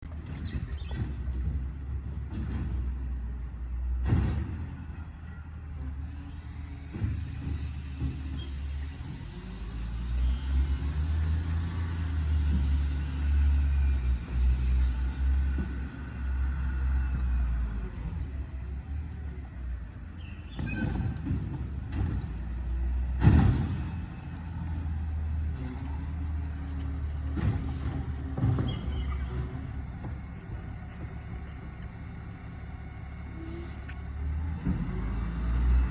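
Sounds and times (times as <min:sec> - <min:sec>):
diesel truck engine rumbling: 0:00.0 - 0:35.9.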